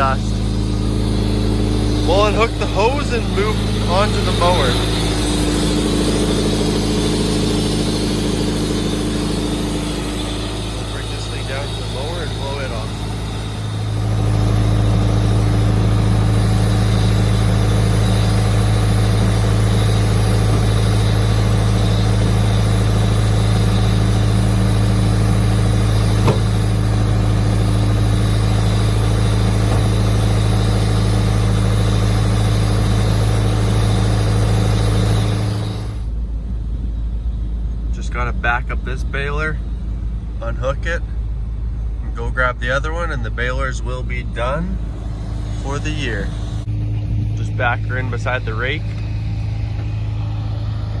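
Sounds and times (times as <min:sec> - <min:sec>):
engine humming steadily: 0:00.0 - 0:51.0.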